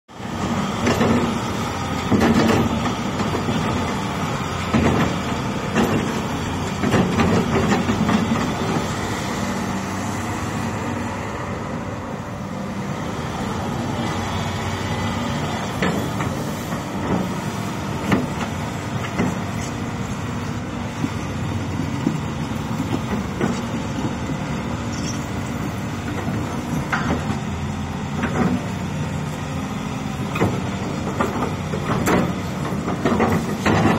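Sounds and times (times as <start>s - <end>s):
excavator diesel engine running: 0.1s - 33.9s
excavator clunk: 0.3s - 9.3s, 15.3s - 33.9s.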